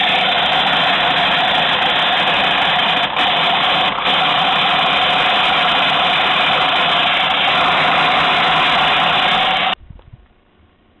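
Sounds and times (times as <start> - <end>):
toy washing machine motor whining: 0.0 - 9.8.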